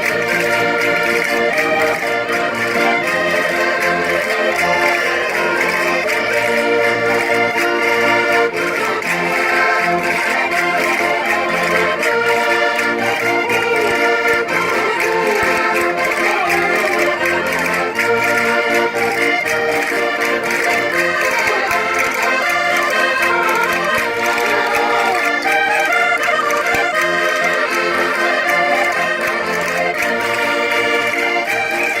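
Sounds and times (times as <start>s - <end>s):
button accordions playing folk dance: 0.0s - 32.0s.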